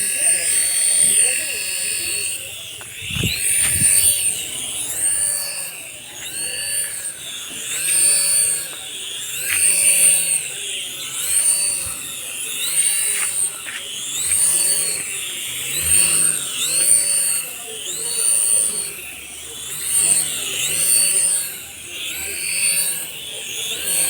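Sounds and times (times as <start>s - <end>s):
toy helicopter motor whining: 0.0s - 24.0s.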